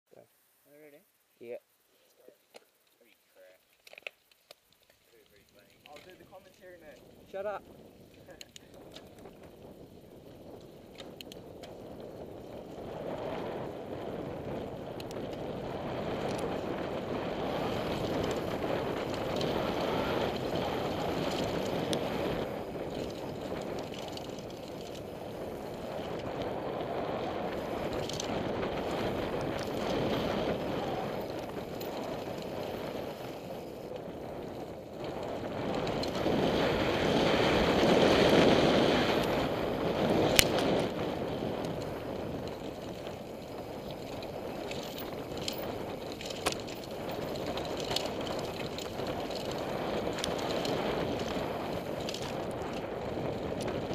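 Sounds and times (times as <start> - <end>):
bike clicks and rattles: 2.5 - 53.9
tyres rolling on dirt: 3.4 - 53.9
wind rushing over microphone: 6.0 - 53.9.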